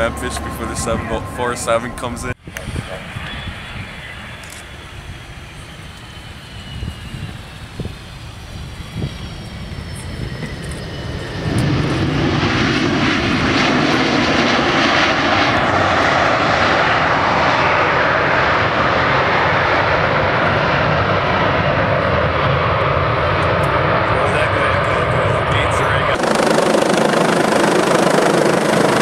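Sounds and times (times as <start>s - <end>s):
jet engines reverse thrust: 0.0s - 29.0s.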